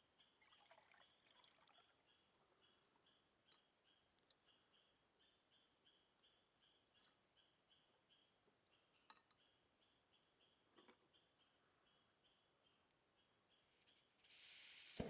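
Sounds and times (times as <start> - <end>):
faint repeated chirping: 0.0 - 15.0.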